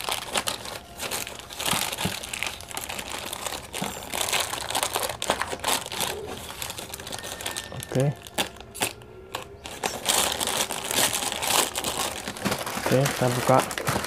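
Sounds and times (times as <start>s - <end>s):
plastic bag crinkling and tearing: 0.0s - 14.0s.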